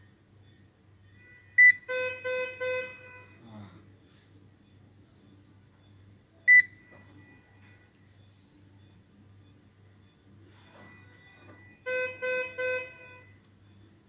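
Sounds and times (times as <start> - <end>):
ultrasound machine beeps: 0.4 - 3.4, 4.4 - 14.0.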